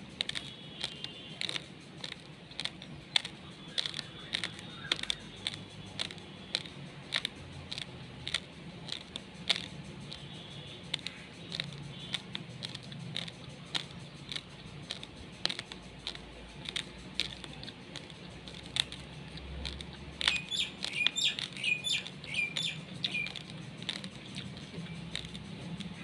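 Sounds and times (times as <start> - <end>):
bird chirping: 0.0 - 7.9, 8.6 - 26.0
rice grains being chewed: 0.0 - 26.0.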